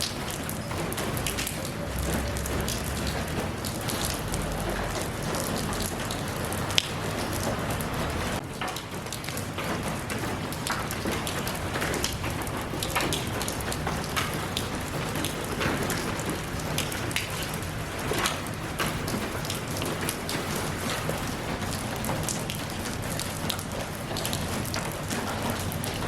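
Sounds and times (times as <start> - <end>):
raindrops pattering on surfaces: 0.0 - 26.0
steady rain falling: 0.0 - 26.0.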